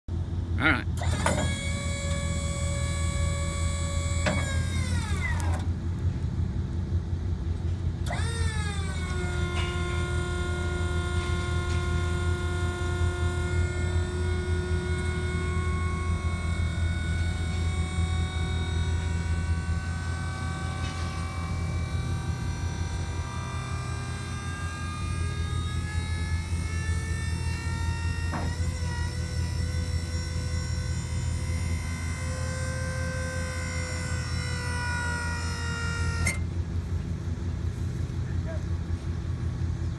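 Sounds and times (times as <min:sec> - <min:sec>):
steady low hum: 0:00.1 - 0:39.9
hydraulic pump motor whining: 0:00.2 - 0:06.2, 0:07.4 - 0:39.9.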